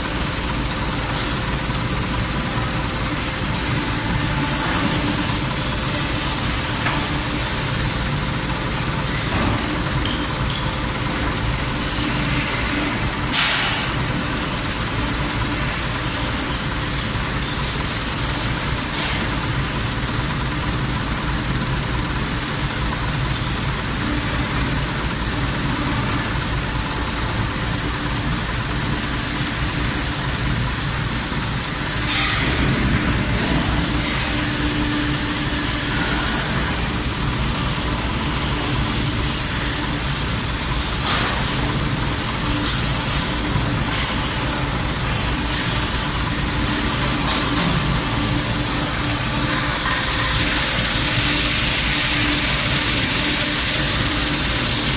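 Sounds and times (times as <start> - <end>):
furnace running with steady hum: 0.0 - 54.9.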